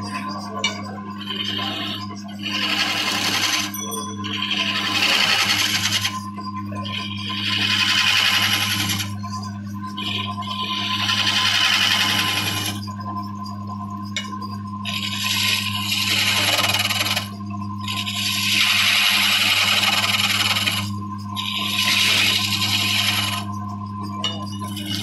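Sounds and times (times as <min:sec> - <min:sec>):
lathe motor humming: 0:00.0 - 0:09.2, 0:09.9 - 0:12.9, 0:14.8 - 0:23.5, 0:24.7 - 0:25.0
chisel scraping spinning wood: 0:00.0 - 0:13.0, 0:14.2 - 0:23.6, 0:24.2 - 0:25.0.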